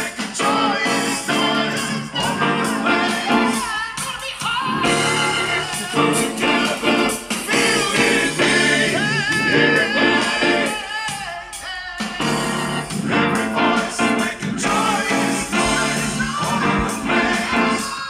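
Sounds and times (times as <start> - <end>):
song with vocal and band: 0.0 - 18.0.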